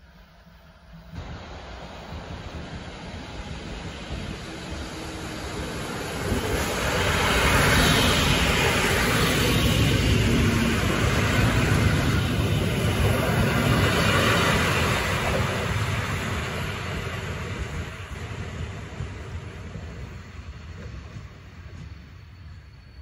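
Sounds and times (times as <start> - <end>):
passenger train passing: 0.0 - 23.0.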